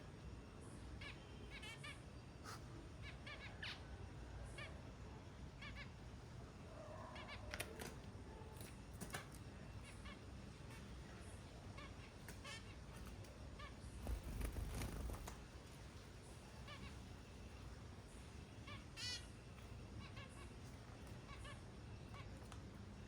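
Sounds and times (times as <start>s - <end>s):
small birds chirping: 0.4s - 4.8s, 6.9s - 23.0s.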